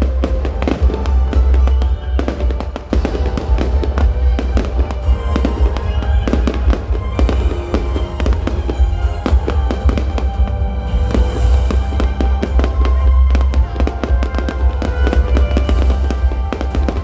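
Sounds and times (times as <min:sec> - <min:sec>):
fireworks bangs: 0:00.0 - 0:17.0
loud music with heavy bass: 0:00.0 - 0:17.0.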